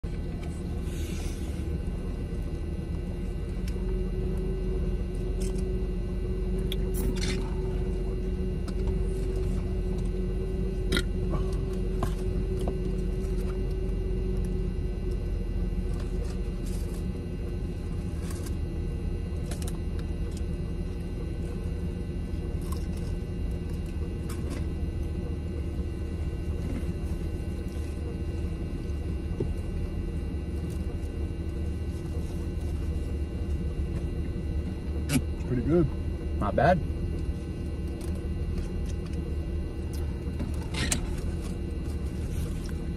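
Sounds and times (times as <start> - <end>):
low rumble and hum inside car: 0.0 - 42.9.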